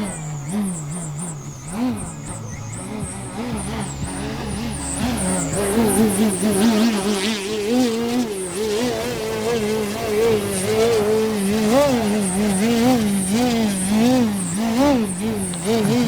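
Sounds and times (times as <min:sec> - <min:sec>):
model plane electric motor droning: 0:00.0 - 0:16.0.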